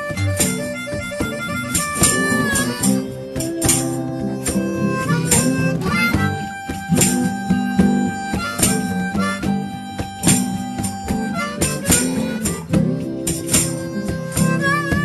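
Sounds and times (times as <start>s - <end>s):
held lead notes: 0.0s - 15.0s
percussive strikes: 0.0s - 15.0s
strummed guitar: 0.0s - 15.0s.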